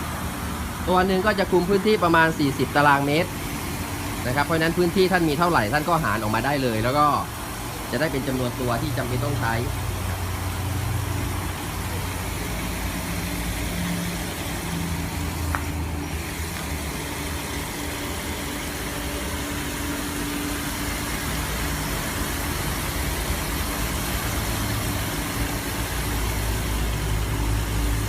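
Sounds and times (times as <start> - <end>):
motor hum: 0.0 - 28.0.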